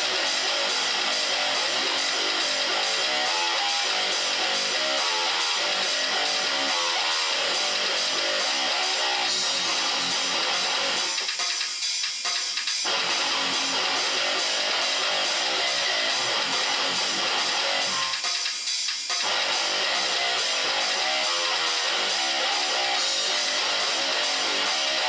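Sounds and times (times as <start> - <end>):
electric guitar metal riffing: 0.0 - 11.4, 12.8 - 18.3, 19.2 - 25.0.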